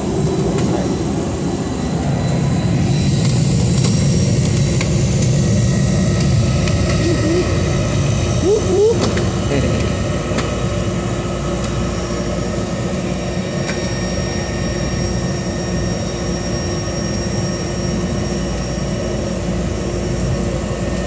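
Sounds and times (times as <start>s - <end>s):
aircraft engine and propeller: 0.0s - 21.0s.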